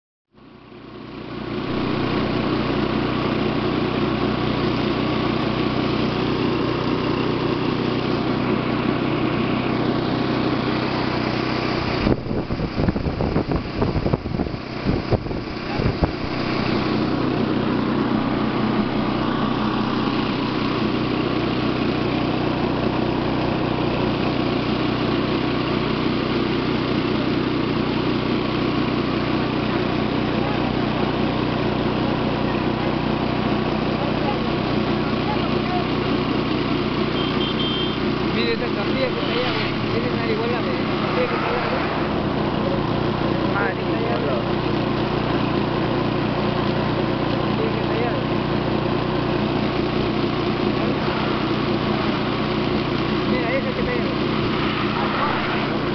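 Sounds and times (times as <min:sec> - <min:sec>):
small motorcycle engine running: 0:00.4 - 0:55.9
wind and road noise: 0:00.9 - 0:32.3, 0:37.0 - 0:47.5, 0:48.3 - 0:55.9.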